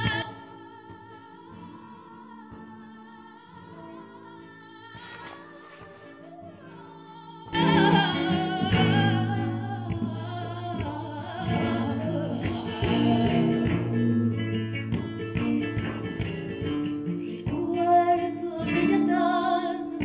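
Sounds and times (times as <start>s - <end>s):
woman singing: 0.0s - 15.8s, 17.0s - 20.0s
flamenco accompaniment: 0.0s - 20.0s.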